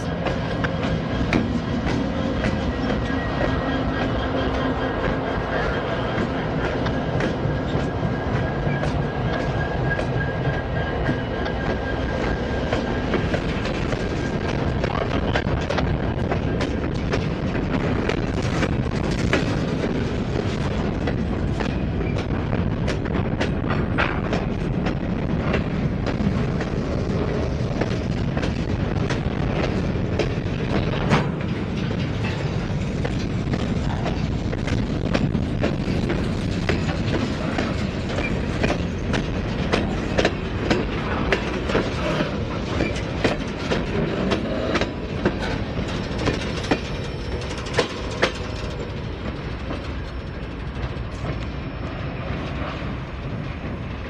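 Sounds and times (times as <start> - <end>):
train wheels rumbling on rail: 0.0 - 54.0
wheels clacking over rail joints: 0.0 - 54.0.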